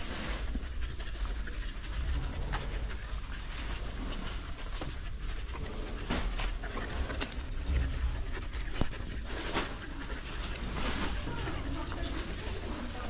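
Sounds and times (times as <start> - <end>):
dog panting: 0.0 - 13.0
low rumble from carried camera: 0.0 - 13.0.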